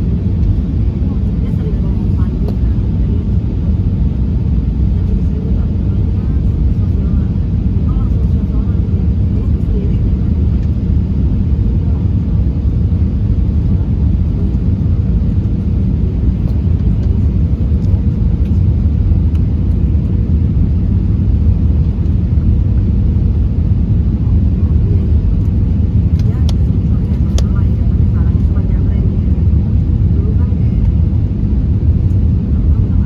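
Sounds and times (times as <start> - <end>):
airliner low rumble: 0.0 - 33.0
faint constant hum: 0.0 - 33.0.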